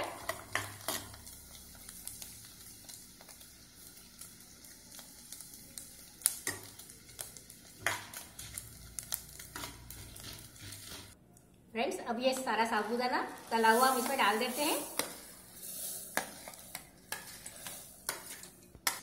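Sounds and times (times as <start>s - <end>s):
deep-frying sizzle: 0.0s - 11.2s, 12.4s - 19.0s.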